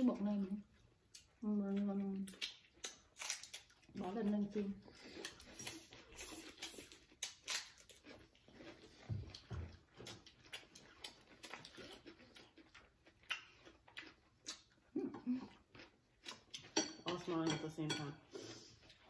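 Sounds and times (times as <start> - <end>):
noodles slurped and chewed: 0.0 - 16.8, 18.2 - 19.0.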